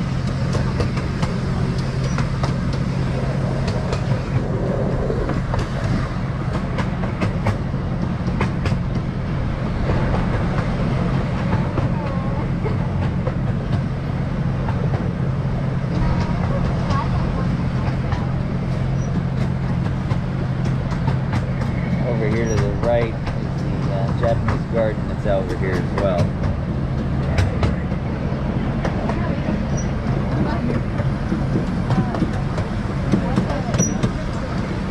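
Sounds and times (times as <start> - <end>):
miniature train rumbling: 0.0 - 34.9
wheels clicking over rail joints: 0.0 - 34.9.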